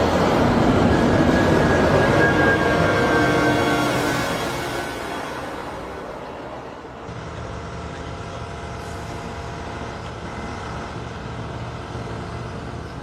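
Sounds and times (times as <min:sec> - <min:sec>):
heavy vehicle engine humming: 0:00.0 - 0:13.0.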